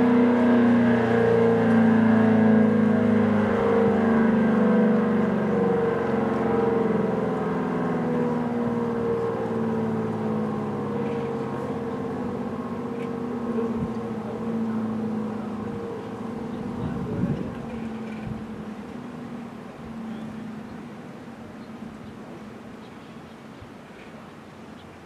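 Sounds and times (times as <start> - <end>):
warning siren wailing: 0.0 - 22.8.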